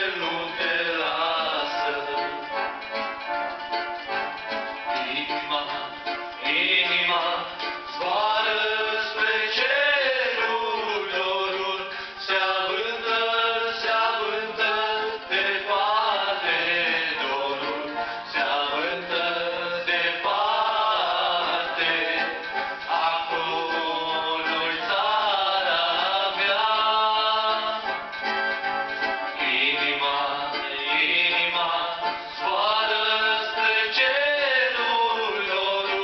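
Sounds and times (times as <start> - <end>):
two men singing: 0.0 - 2.8, 4.8 - 28.1, 29.3 - 36.0.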